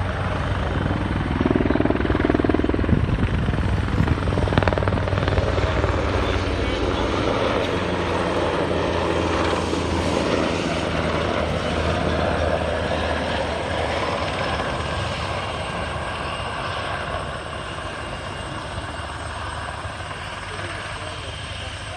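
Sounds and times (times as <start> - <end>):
helicopter rotor rumble: 0.0 - 21.9.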